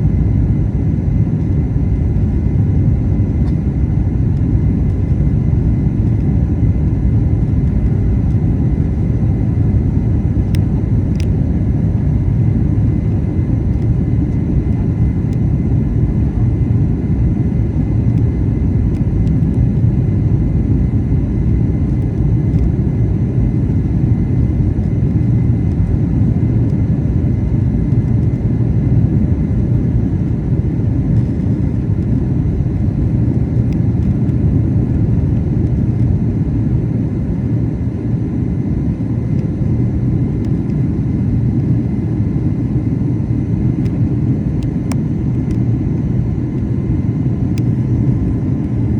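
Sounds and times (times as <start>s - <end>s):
jet engines rumbling: 0.0s - 48.9s.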